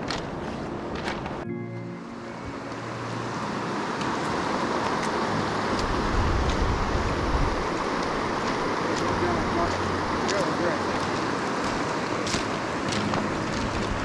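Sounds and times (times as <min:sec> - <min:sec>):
river rushing over rocks: 0:02.3 - 0:14.0.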